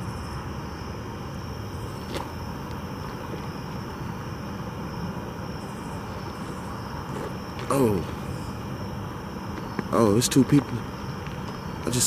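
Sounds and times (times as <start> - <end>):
thin steady high tone: 0.0 - 12.0.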